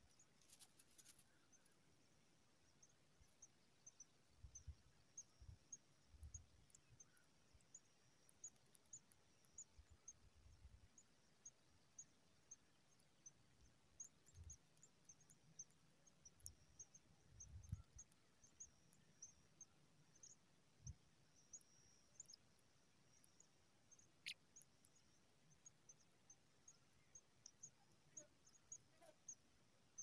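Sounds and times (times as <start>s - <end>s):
faint high chirps: 0.0s - 30.0s.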